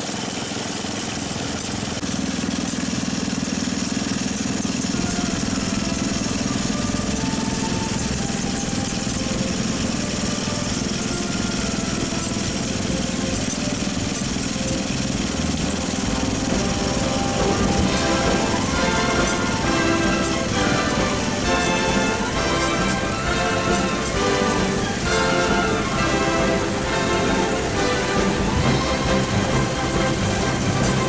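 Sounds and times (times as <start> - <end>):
small engine running under load: 0.0 - 31.0.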